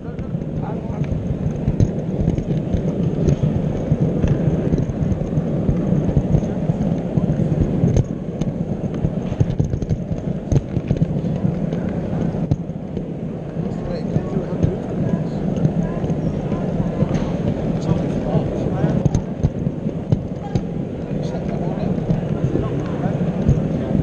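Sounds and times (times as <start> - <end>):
model train rumbling on track: 0.0 - 24.0
small track clicks: 0.0 - 24.0.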